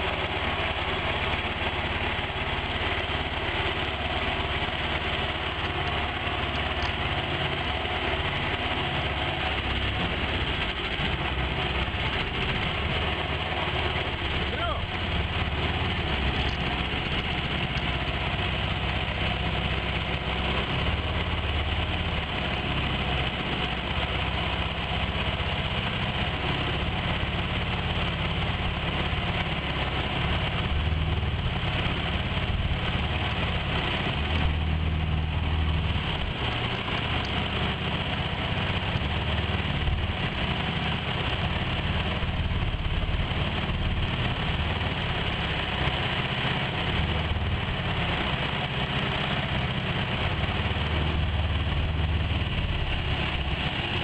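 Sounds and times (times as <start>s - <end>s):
outboard engine running: 0.0s - 54.0s.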